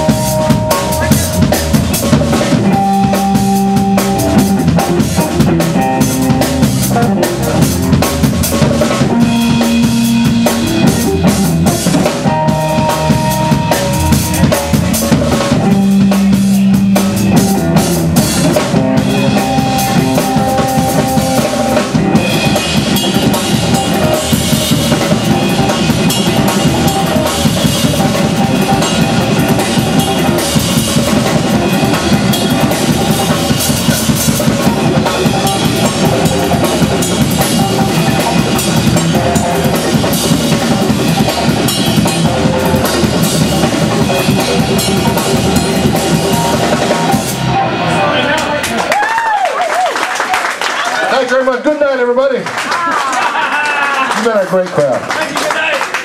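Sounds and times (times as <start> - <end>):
drum kit beat: 0.0 - 49.5
blues band playing: 0.0 - 56.0.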